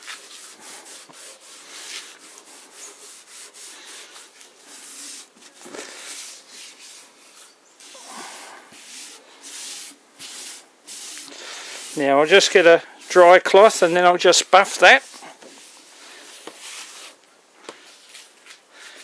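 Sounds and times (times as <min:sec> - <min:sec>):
cloth rubbing on wood: 0:00.0 - 0:17.2.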